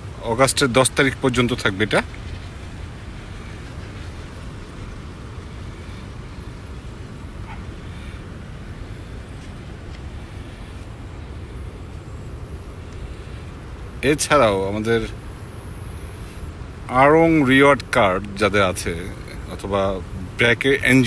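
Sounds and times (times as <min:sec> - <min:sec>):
even hiss: 0:00.0 - 0:21.0
low outdoor rumble: 0:00.0 - 0:21.0.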